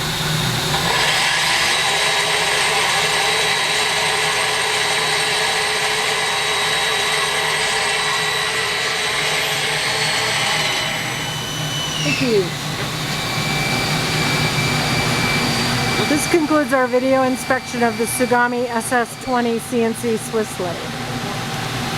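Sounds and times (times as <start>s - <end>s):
lathe spindle whine: 0.0s - 21.9s.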